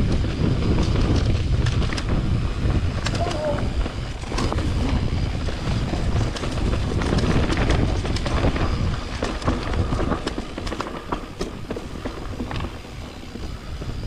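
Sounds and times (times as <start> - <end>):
bike rattles and clicks: 0.0 - 14.0
bike tyre noise: 0.0 - 14.0
wind buffeting microphone: 0.0 - 14.0.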